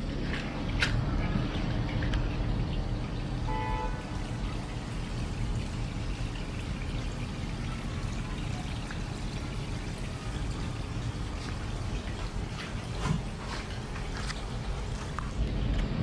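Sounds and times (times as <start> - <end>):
water pouring in a stream: 0.0 - 16.0.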